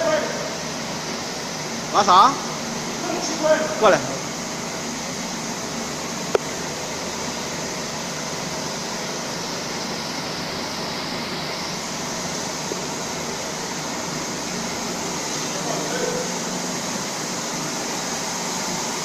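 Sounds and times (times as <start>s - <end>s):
steady mechanical noise: 0.0s - 19.0s.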